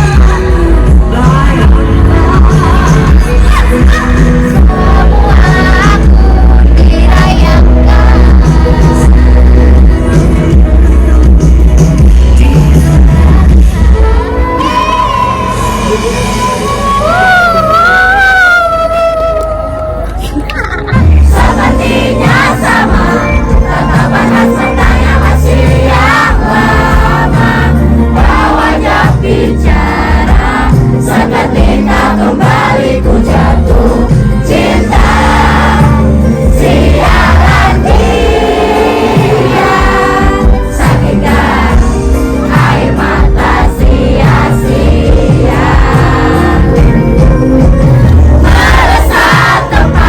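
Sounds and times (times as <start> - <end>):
crowd singing along: 0.0 - 18.9, 20.2 - 50.0
live band playing: 0.0 - 50.0.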